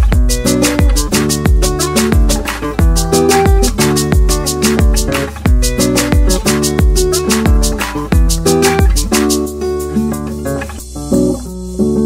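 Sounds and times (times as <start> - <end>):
music with kick drums and hi-hats: 0.0 - 12.0.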